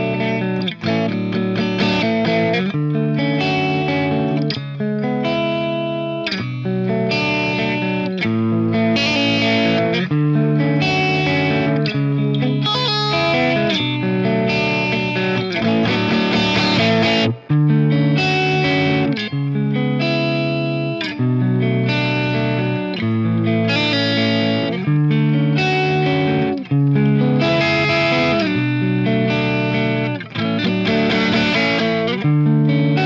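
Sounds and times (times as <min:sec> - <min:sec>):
electric guitar through amp: 0:00.0 - 0:33.0.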